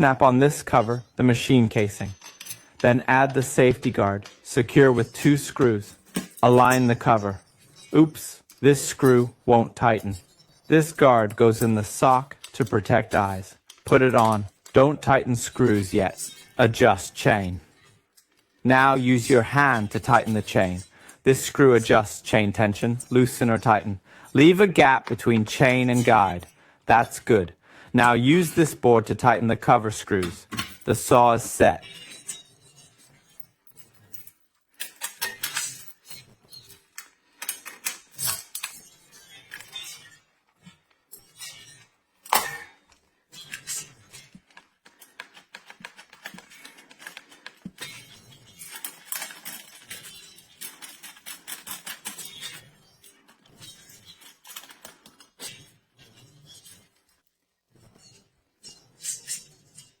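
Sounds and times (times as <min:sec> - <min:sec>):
metal parts and tools clattering: 0:00.0 - 0:57.2, 0:57.8 - 1:00.0.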